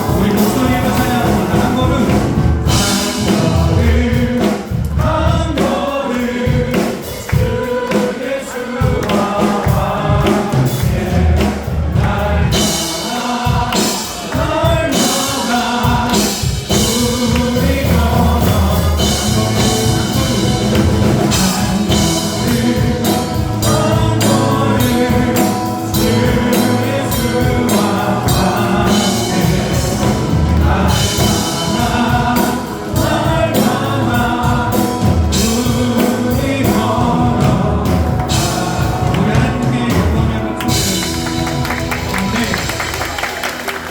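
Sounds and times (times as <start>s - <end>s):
cymbals and drums: 0.0s - 43.7s
full band playing: 0.0s - 43.9s
group singing worship song: 0.0s - 43.9s.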